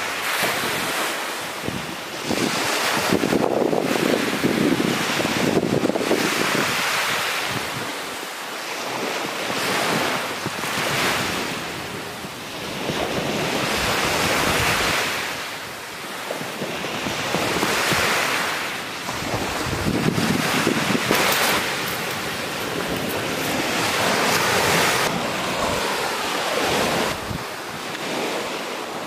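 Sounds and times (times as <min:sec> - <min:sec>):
waves breaking on sandy beach: 0:00.0 - 0:29.0.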